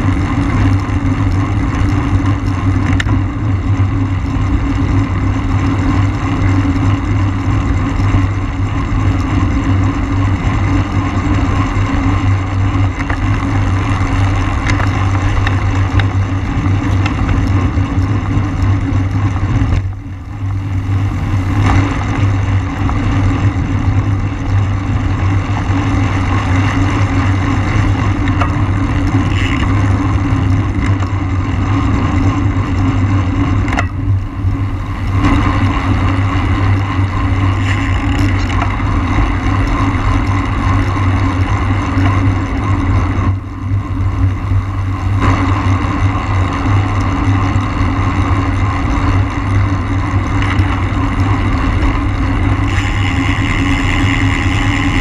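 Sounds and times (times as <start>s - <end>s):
low rumble: 0.0s - 55.0s
wind buffeting microphone: 0.0s - 55.0s.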